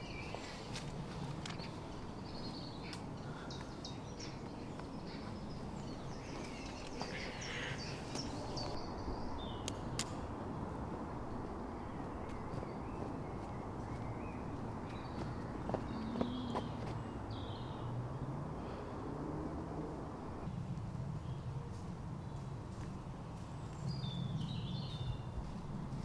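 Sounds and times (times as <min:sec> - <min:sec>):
small birds chirping: 0:00.0 - 0:10.2, 0:11.3 - 0:19.5, 0:22.2 - 0:26.0.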